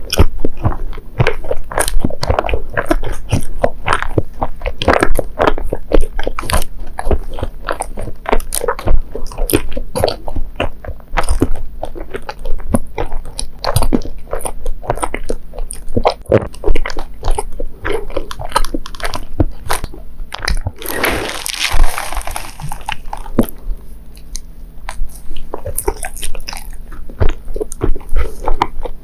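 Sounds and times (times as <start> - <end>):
chewing with wet mouth clicks: 0.0 - 29.0.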